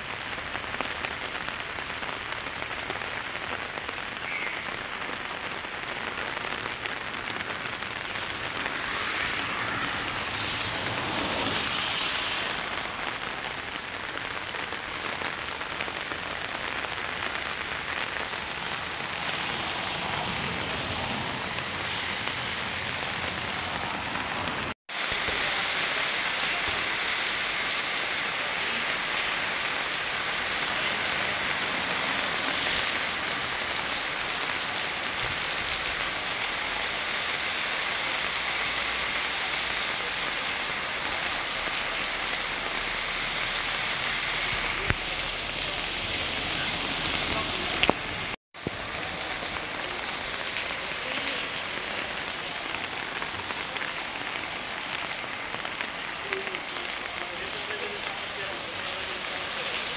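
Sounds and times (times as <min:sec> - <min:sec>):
heavy rain on paving: 0:00.0 - 0:59.9
rain on an umbrella: 0:00.0 - 0:59.9.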